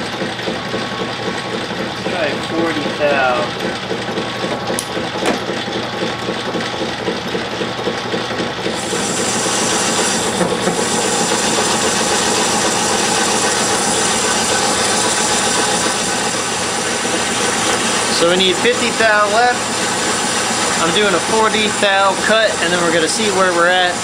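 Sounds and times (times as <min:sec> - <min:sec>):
metal lathe turning cut: 0:00.0 - 0:24.0.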